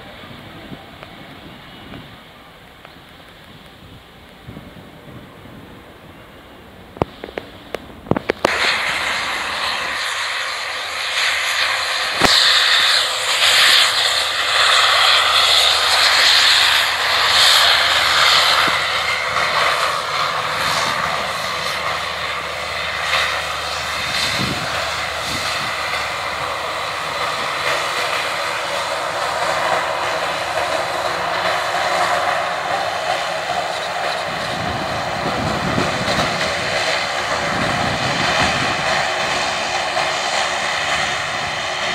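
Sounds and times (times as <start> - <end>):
turboprop engines droning: 0.0 - 41.9
high hiss: 5.6 - 41.9.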